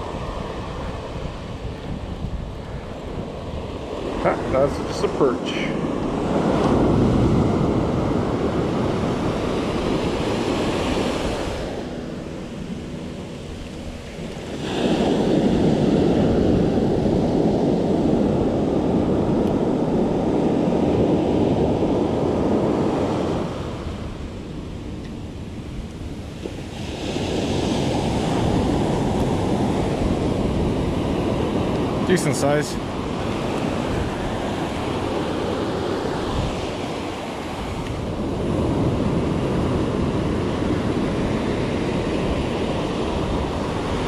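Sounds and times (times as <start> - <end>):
ocean surf breaking: 0.0 - 44.0
wind buffeting microphone: 0.0 - 44.0.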